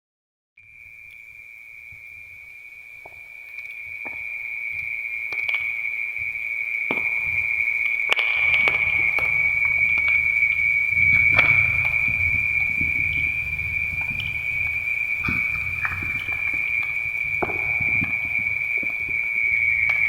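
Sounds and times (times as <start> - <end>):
wood fire crackling and popping: 2.9 - 20.0
high-pitched whistling tone: 3.6 - 20.0.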